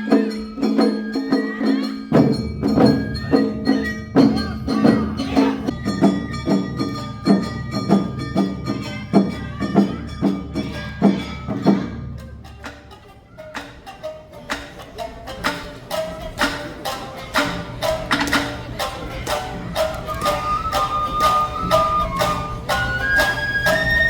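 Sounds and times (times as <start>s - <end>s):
drums striking: 0.0s - 24.0s
melodic instruments: 0.0s - 24.0s.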